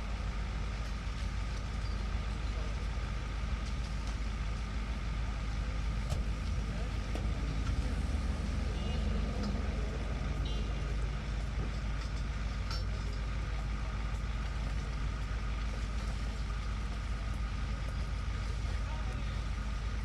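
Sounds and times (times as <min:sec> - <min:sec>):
low machinery hum: 0:00.0 - 0:20.0
thin steady whine: 0:00.0 - 0:20.0.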